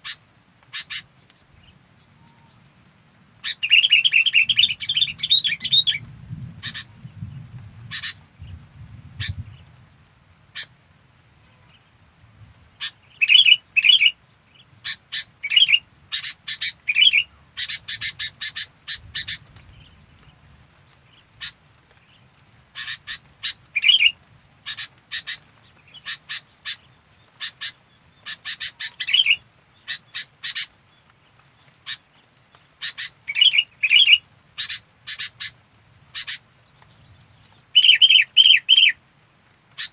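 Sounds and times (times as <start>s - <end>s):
bird chirping: 0.0s - 2.6s, 3.4s - 9.8s, 12.8s - 22.2s, 22.8s - 39.0s
faint high-pitched whine: 0.0s - 39.8s.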